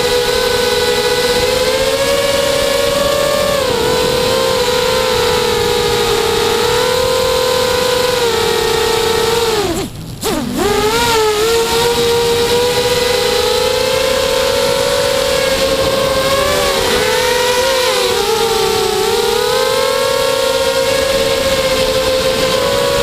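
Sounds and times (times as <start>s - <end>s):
drone motors and propellers whining: 0.0s - 23.0s.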